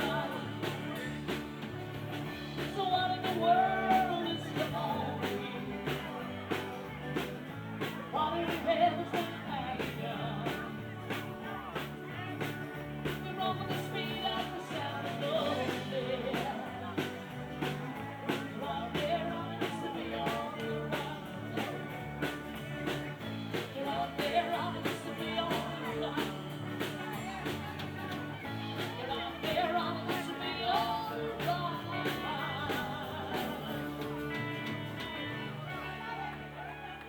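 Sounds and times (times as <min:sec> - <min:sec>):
person singing: 0:00.0 - 0:36.6
live band playing: 0:00.0 - 0:37.0.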